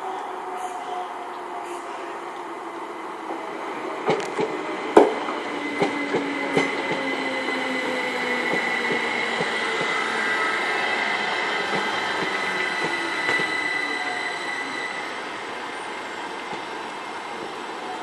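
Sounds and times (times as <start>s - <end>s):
train rumble with high whine: 0.0s - 18.0s.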